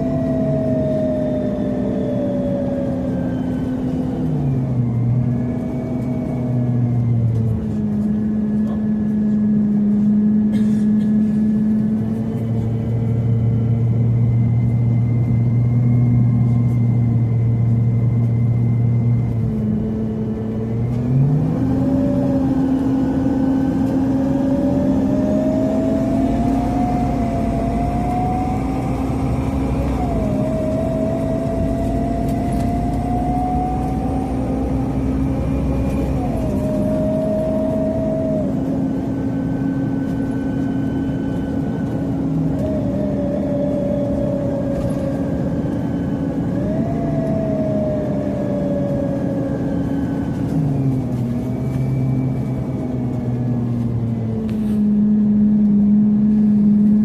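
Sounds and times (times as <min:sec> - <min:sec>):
bus engine humming: 0:00.0 - 0:57.0
rising whine: 0:00.0 - 0:57.0.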